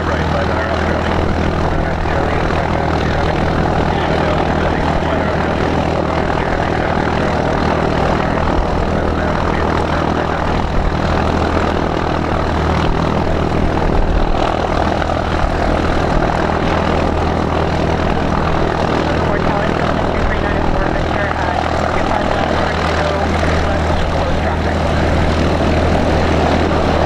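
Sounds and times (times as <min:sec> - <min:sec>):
light plane engine drone: 0:00.0 - 0:27.0.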